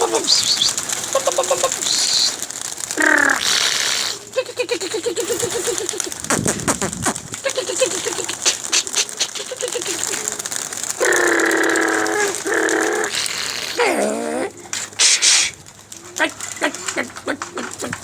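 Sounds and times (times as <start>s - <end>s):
pigeon wings flapping: 0.0s - 18.0s
short pulsed pigeon calls: 0.0s - 18.0s.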